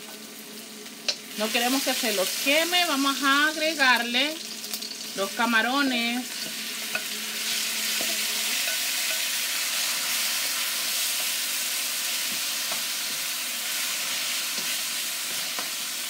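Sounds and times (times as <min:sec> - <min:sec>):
shrimp sizzling in hot oil: 0:00.0 - 0:16.0.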